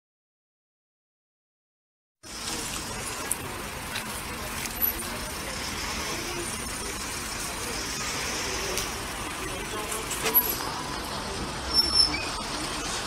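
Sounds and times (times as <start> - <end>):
road traffic hum: 2.2 - 13.0
faint voices: 2.3 - 13.0.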